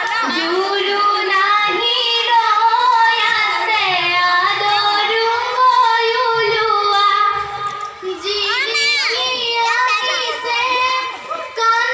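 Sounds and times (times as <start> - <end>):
girls singing through microphones: 0.0 - 11.9.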